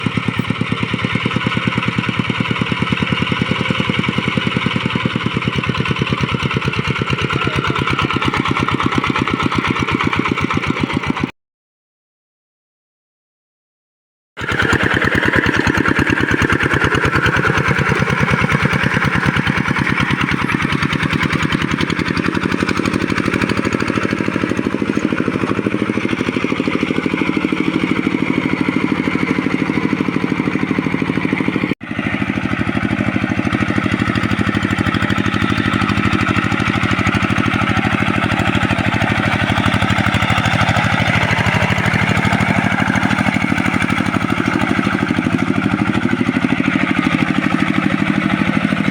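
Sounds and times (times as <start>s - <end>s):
diesel engine running under load: 0.0s - 11.3s, 14.4s - 48.9s.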